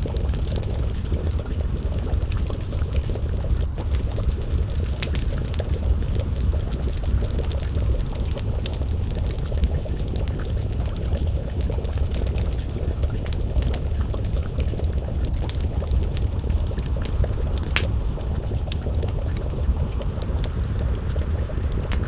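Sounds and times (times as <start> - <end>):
stew bubbling in a pot: 0.0 - 22.0
wood fire crackling: 0.0 - 22.0.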